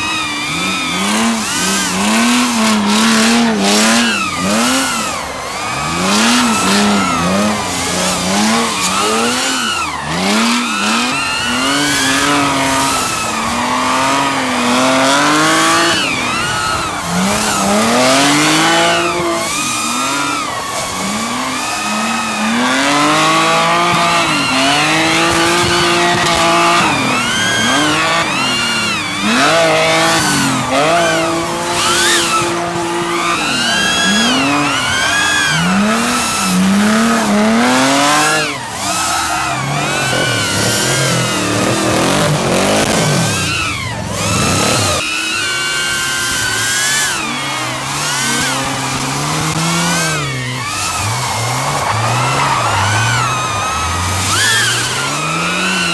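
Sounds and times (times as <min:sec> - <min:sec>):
car engines revving: 0:00.0 - 0:55.9
tyres squealing: 0:00.0 - 0:55.9.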